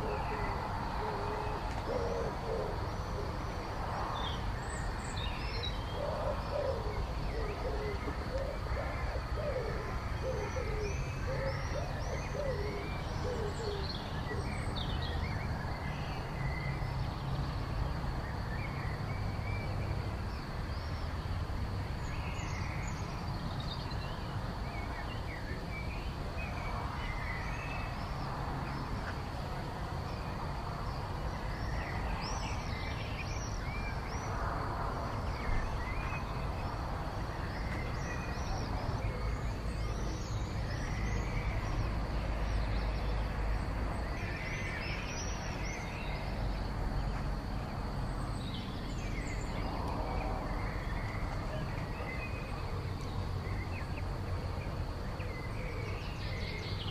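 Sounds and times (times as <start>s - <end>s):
birds chirping and warbling: 0.0s - 56.9s.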